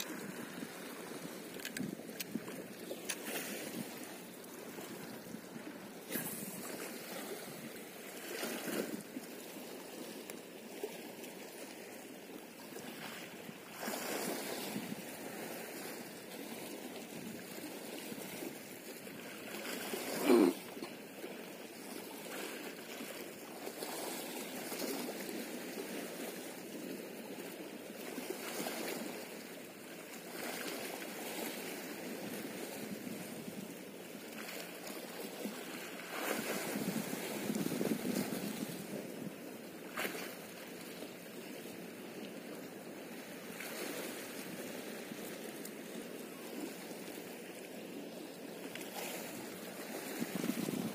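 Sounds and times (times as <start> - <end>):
waves lapping on rocky shore: 0.0 - 50.9.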